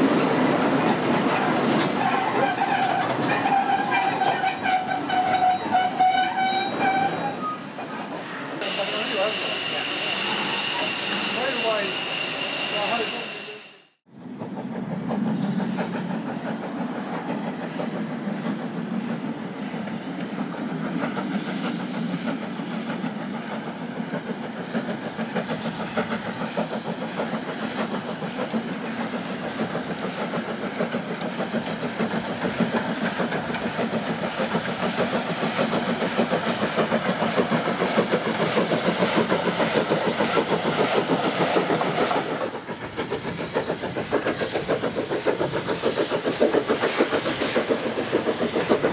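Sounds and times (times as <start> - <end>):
wheels rattling on rails: 0.0 - 9.6, 14.2 - 48.9
steam locomotive exhaust beat: 8.6 - 48.9.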